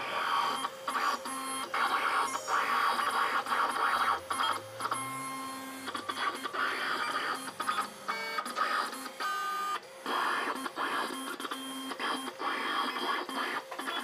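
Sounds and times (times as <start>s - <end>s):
cutting plotter motors whirring: 0.0s - 14.0s.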